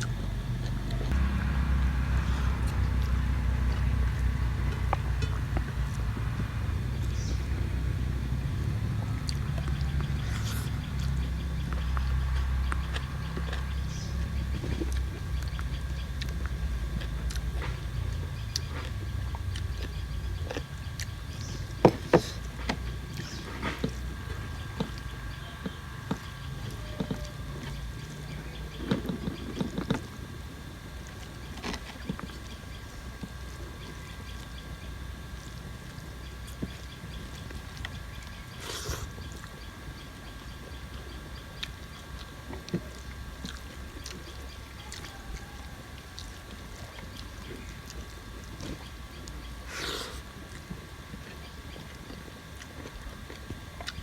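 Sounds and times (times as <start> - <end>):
chewing and lip-smacking: 0.0 - 1.6, 2.2 - 54.0
steady low hum: 0.0 - 54.0.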